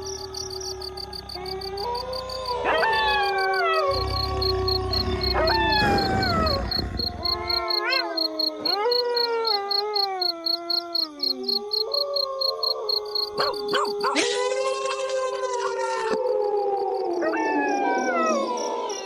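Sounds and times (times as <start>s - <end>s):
wolves howling: 0.0s - 14.6s, 15.3s - 19.0s.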